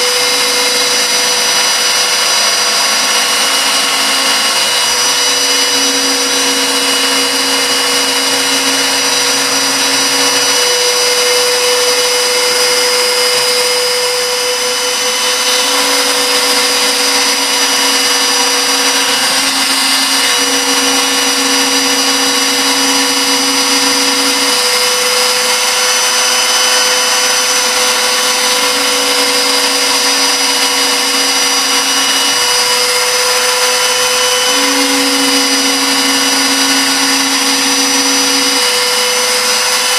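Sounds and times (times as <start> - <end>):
lower machine tone: 0.0 - 39.9
milling machine spindle whine: 0.0 - 39.9.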